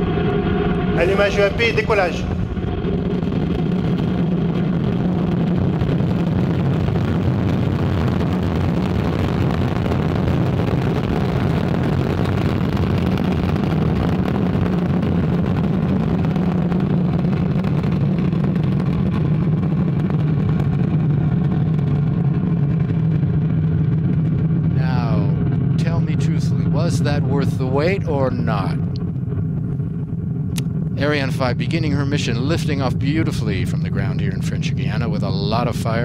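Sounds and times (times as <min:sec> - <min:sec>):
rocket engines rumbling: 0:00.0 - 0:36.0.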